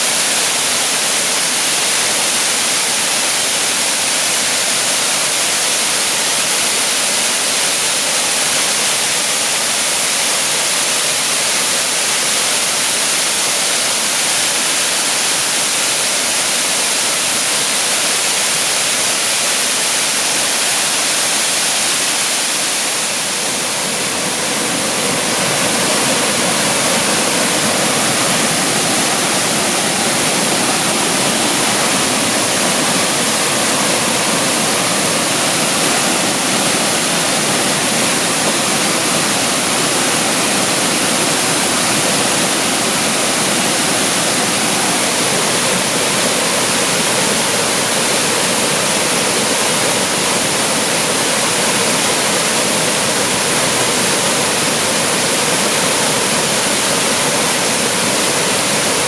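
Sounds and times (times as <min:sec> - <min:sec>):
waterfall pouring: 0:00.0 - 0:59.0.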